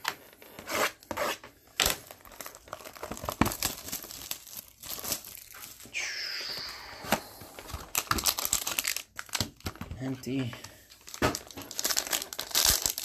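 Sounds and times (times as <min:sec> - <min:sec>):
plastic wrap crinkling and tearing: 0:00.0 - 0:13.0.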